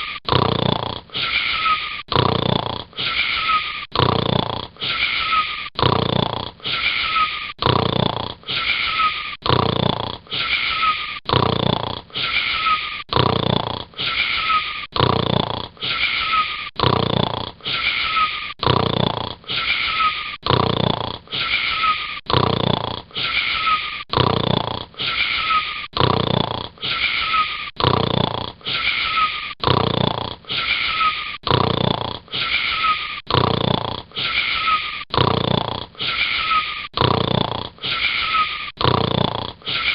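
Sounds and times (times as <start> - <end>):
snoring with faint whistle: 0.0 - 39.9.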